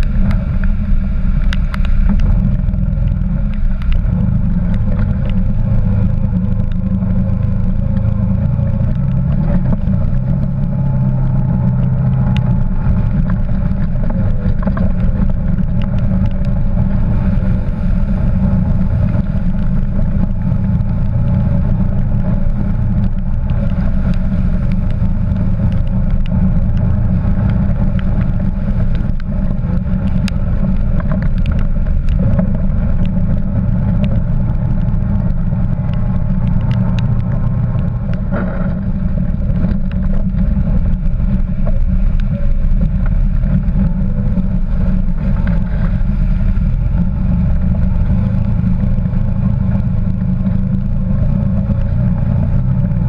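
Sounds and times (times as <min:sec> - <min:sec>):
quad bike engine droning: 0:00.0 - 0:53.0
wheels splashing through water: 0:00.0 - 0:53.0.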